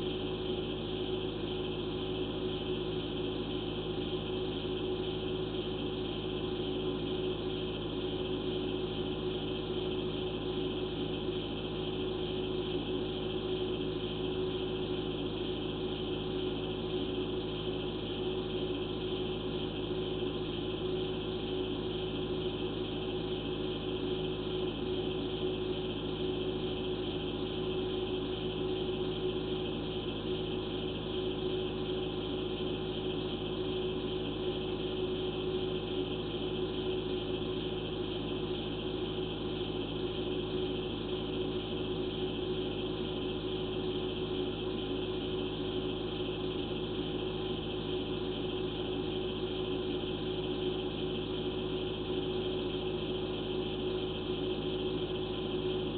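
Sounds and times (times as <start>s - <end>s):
steady hum with fixed tones: 0.0s - 55.9s.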